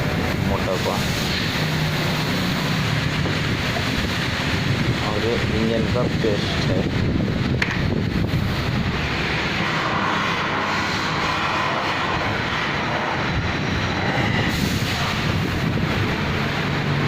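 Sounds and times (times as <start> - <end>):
steady rumbling noise: 0.0 - 17.0.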